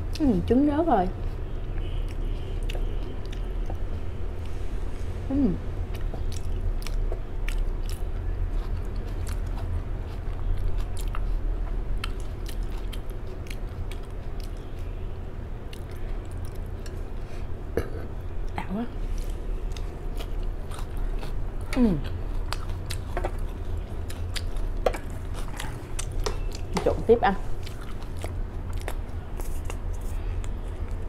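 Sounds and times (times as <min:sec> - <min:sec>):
chewing crisp lettuce: 0:01.1 - 0:03.8, 0:05.8 - 0:17.5, 0:18.2 - 0:31.0.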